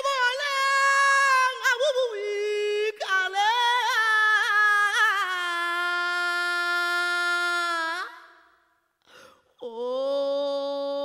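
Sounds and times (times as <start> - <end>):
woman singing a lament: 0.0 - 8.6, 9.5 - 11.0.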